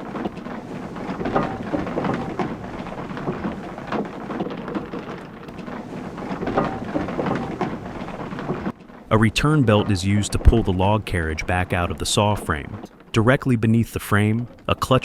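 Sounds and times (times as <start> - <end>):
sawmill machinery rumbling: 0.0 - 15.0
wooden gearing knocking and rattling: 0.0 - 15.0.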